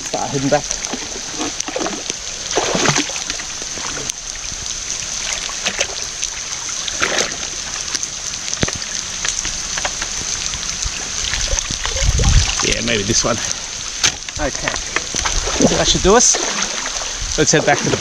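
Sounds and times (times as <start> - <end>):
rain falling on water: 0.0 - 18.0
splashing in shallow water: 0.0 - 18.0.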